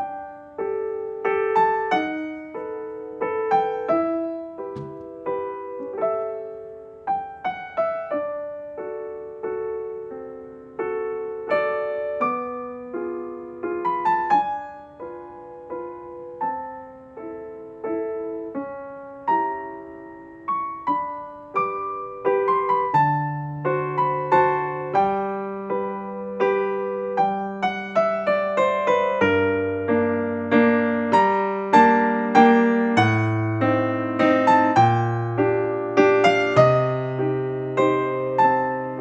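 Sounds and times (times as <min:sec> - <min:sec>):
slow gentle piano: 0:00.0 - 0:39.0.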